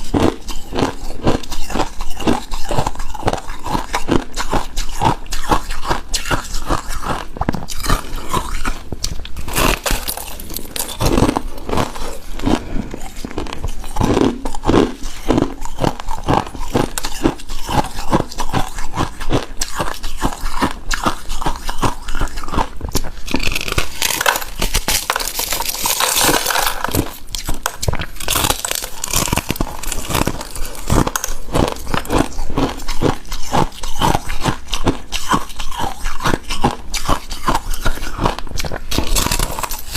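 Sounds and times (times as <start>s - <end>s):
shaved ice being chewed: 0.0s - 39.9s.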